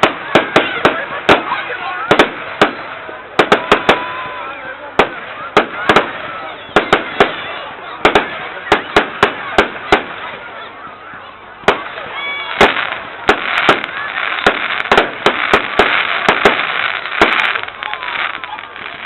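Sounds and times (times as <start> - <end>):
fireworks bangs: 0.0 - 10.6, 11.6 - 19.0
fireworks crackling hiss: 0.0 - 10.6, 11.5 - 19.0.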